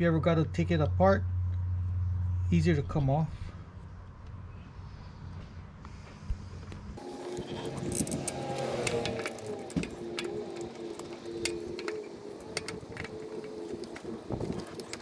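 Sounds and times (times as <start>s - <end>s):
low wavering hum: 0.0s - 15.0s.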